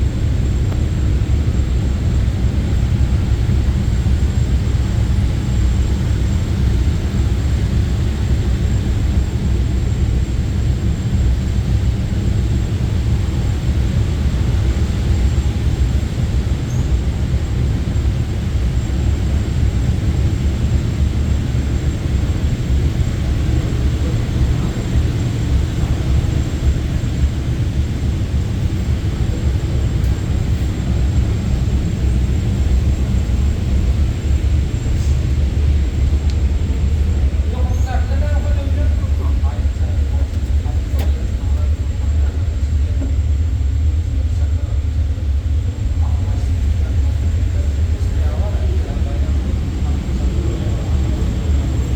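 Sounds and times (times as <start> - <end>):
machine low rumble: 0.0 - 51.9.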